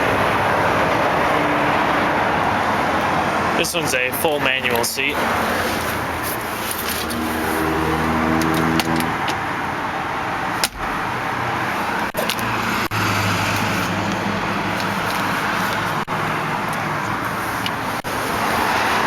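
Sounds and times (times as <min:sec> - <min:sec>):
vehicle engine noise: 0:00.0 - 0:19.0.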